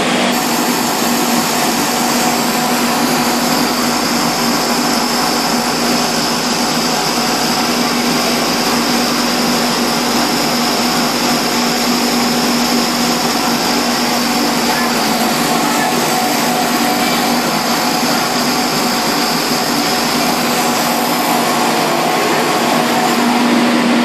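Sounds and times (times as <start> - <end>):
churning wash water: 0.0 - 24.0
motor hum with high whine: 0.0 - 24.0.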